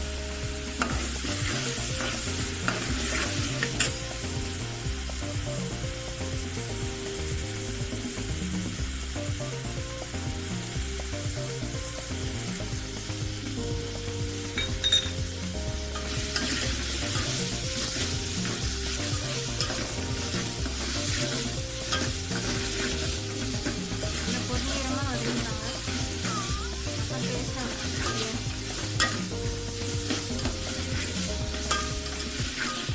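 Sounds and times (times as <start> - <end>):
background music with bass line: 0.0 - 32.9.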